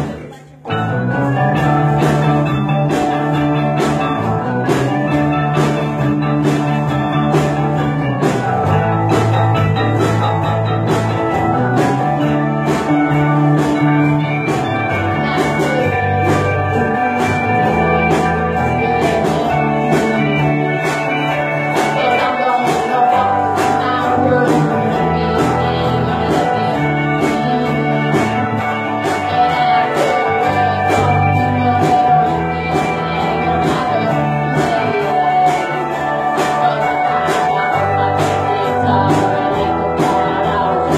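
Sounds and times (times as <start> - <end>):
steady beat: 0.0 - 40.9
strummed acoustic guitar: 0.0 - 40.9.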